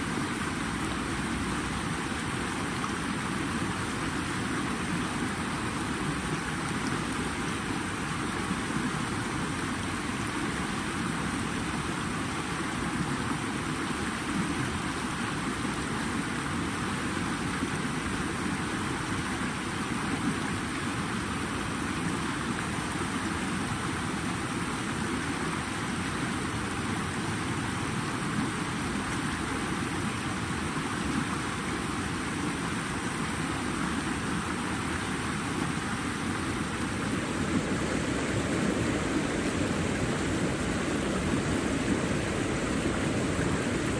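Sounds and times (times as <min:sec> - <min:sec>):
water rushing: 0:00.0 - 0:43.9.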